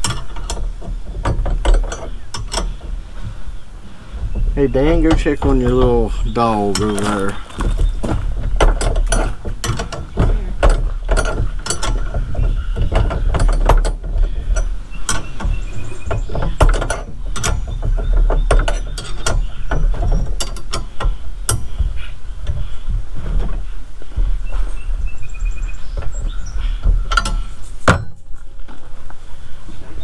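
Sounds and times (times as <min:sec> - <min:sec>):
metal tools and bolts clanking: 0:00.0 - 0:23.6, 0:25.8 - 0:28.5.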